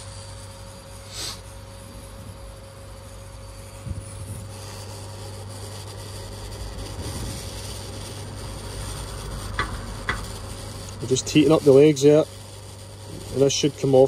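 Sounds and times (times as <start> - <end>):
hot air station blowing air: 0.0 - 14.0.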